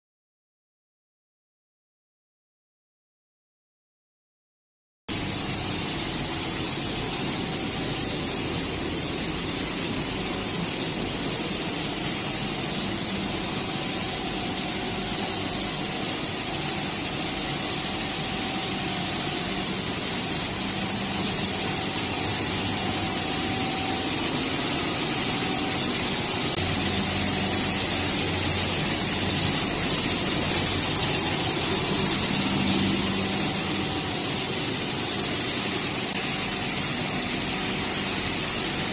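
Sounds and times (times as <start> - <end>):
factory machinery drone with hiss: 5.1 - 38.9.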